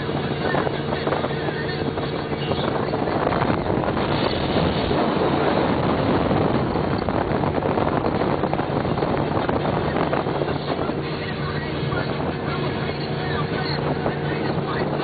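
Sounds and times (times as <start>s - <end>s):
powerboat engine running: 0.0s - 15.0s
wind buffeting microphone: 0.0s - 15.0s.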